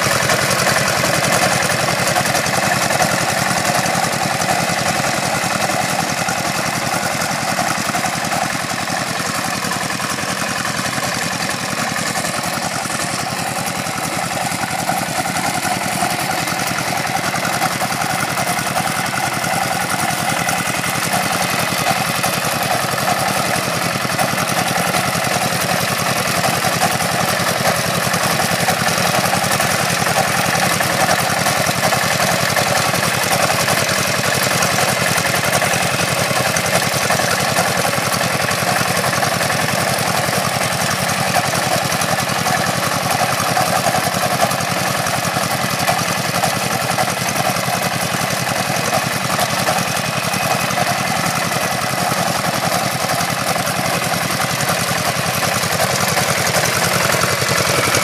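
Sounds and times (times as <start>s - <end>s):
road roller engine running: 0.0s - 58.0s.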